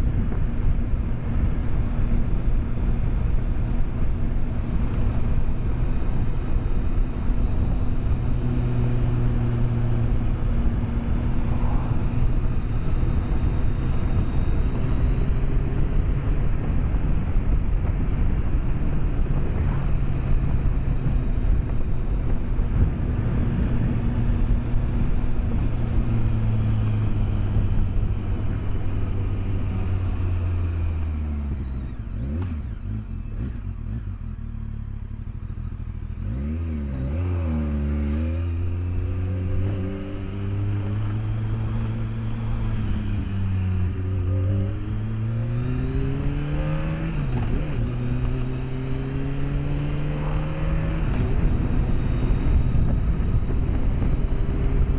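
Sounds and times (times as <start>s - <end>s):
wind noise: 0.0s - 33.6s, 37.2s - 54.9s
motorcycle engine accelerating: 0.0s - 54.9s.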